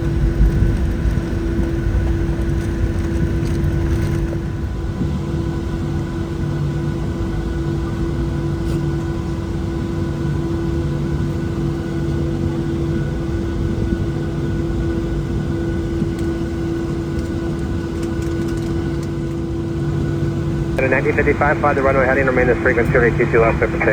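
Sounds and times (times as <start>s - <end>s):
jet engines droning in cabin: 0.0s - 23.9s.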